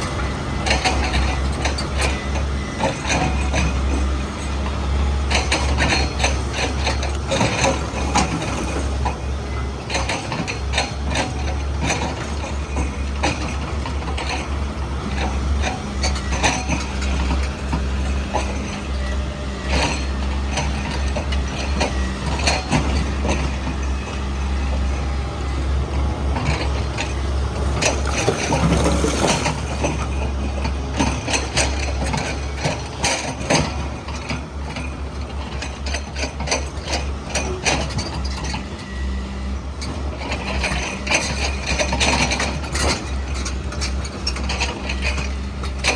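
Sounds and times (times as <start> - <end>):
excavator diesel engine drone: 0.0 - 45.9.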